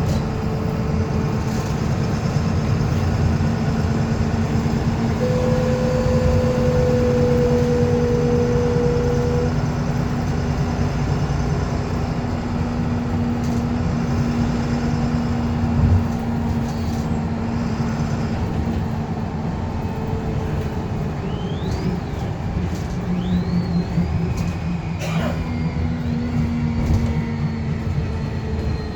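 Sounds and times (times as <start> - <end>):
bus engine and road rumble: 0.0 - 28.9.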